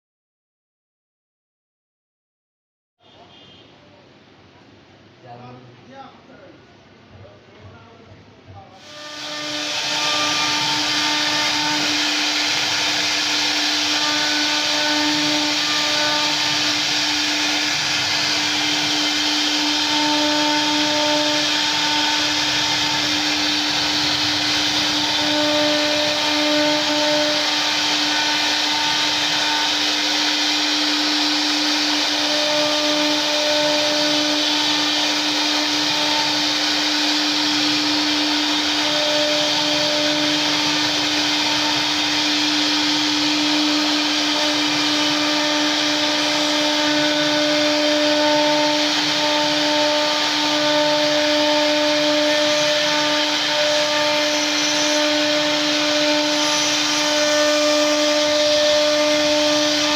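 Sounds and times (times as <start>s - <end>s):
wood router carving wood: 8.8s - 59.9s.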